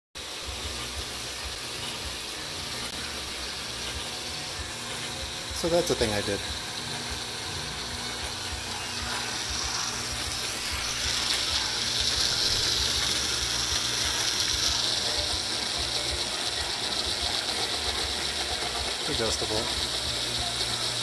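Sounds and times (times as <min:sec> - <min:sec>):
belt grinder motor hum: 0:00.2 - 0:21.0
grinder belt hiss: 0:00.2 - 0:21.0.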